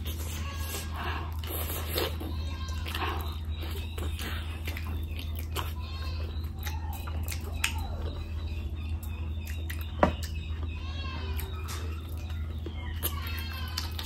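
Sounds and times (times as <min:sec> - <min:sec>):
steady low hum: 0:00.0 - 0:14.0
wet chewing: 0:00.0 - 0:14.0.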